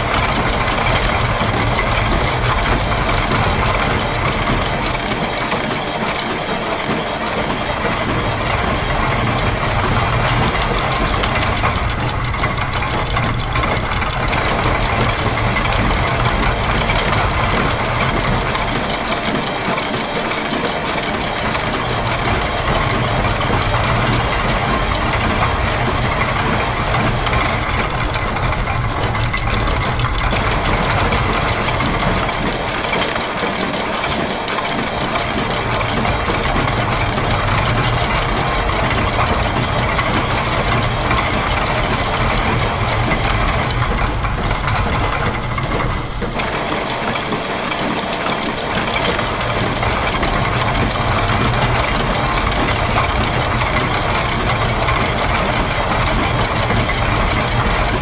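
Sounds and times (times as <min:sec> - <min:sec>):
gears: 0:00.0 - 0:58.0
sewing machine: 0:00.0 - 0:58.0.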